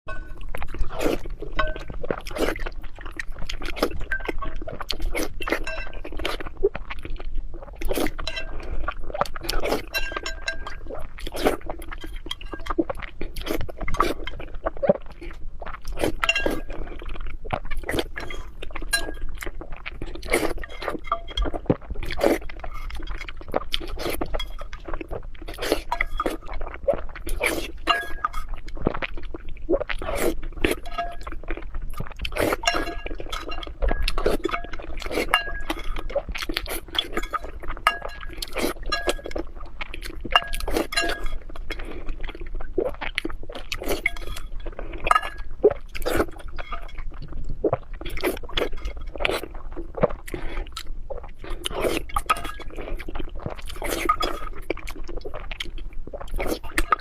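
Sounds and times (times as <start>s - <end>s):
biting and chewing: 0.1s - 57.0s
eating eggs with crunching: 0.1s - 57.0s.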